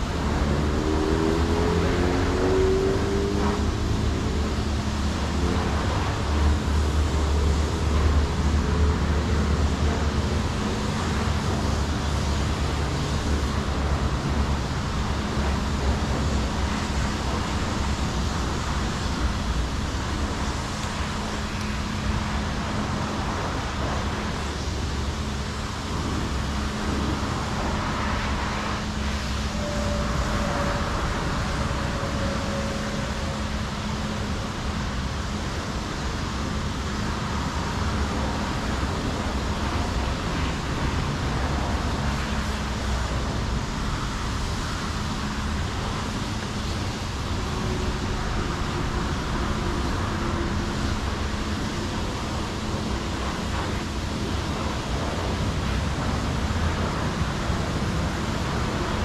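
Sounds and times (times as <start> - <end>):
engine idling rumble: 3.4 - 59.0.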